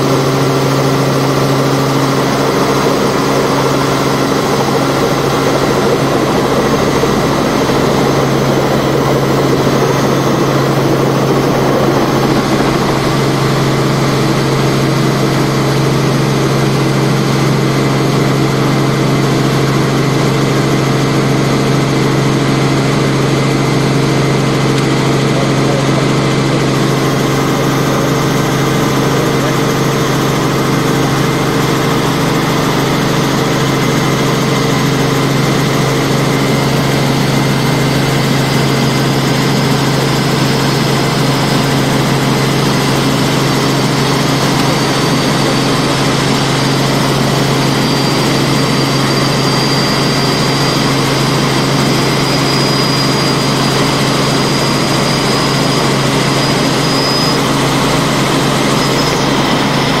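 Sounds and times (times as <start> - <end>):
thin high whine: 0.0 - 20.5, 23.6 - 60.0
helicopter engine and rotors drone: 0.0 - 60.0.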